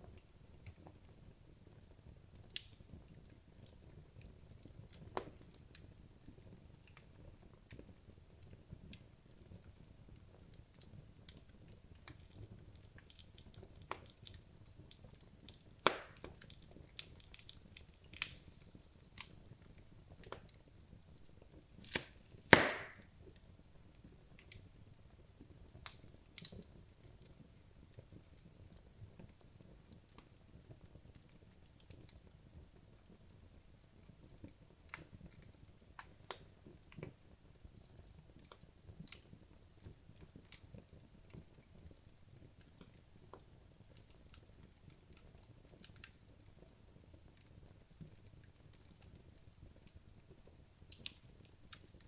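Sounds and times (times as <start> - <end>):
logs crackling in a fireplace: 0.0 - 52.0
soft low fire hiss: 0.0 - 52.0.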